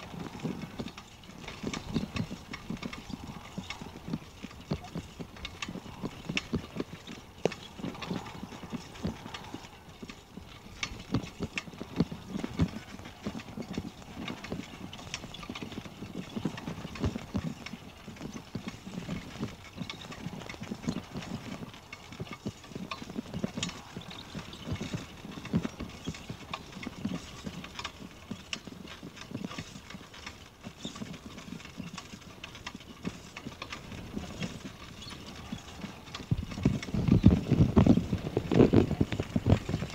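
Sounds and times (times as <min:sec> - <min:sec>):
bicycle rattling and knocking: 0:00.0 - 0:39.9
low rumble of tyres: 0:00.0 - 0:39.9.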